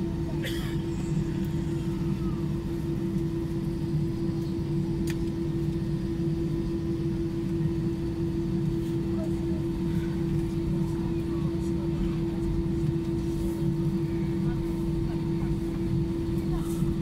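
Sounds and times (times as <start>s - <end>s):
aircraft engines idling: 0.0s - 17.0s.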